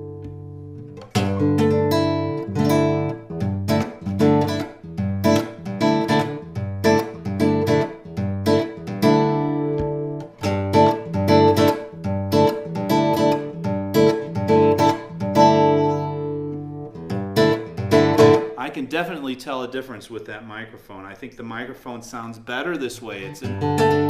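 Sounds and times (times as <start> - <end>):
nylon-string guitar strummed: 0.0 - 20.2, 22.9 - 24.0.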